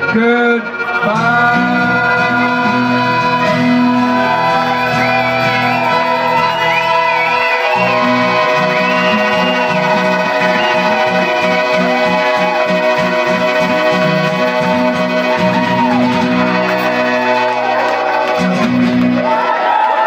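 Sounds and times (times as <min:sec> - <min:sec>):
strummed acoustic guitars: 0:00.0 - 0:19.5
harmonica melody: 0:00.0 - 0:19.7
accordion chords: 0:00.0 - 0:20.0.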